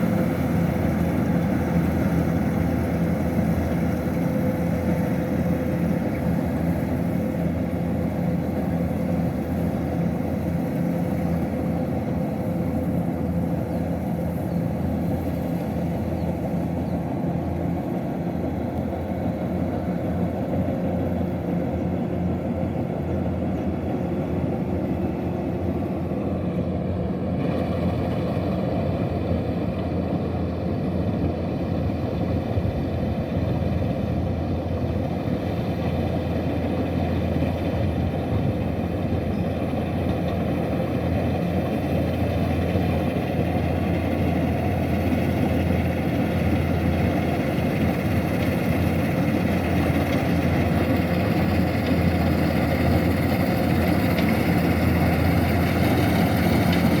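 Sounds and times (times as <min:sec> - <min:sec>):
combine harvester diesel engine running: 0:00.0 - 0:57.0.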